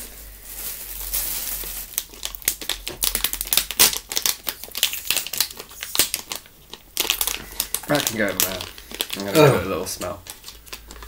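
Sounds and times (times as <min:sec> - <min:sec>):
plastic chip pouches crinkling: 0:00.0 - 0:11.0.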